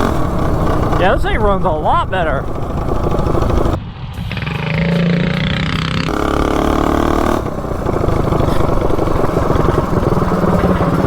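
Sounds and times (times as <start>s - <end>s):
mini bike engine running: 0.0s - 3.8s, 4.8s - 11.0s.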